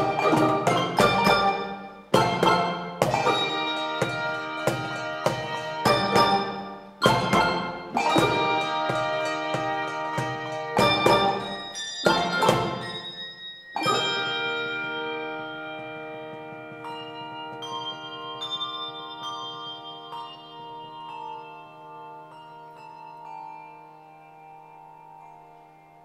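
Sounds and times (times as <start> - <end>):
handbell choir playing: 0.0 - 26.0
single bell notes: 0.0 - 26.0.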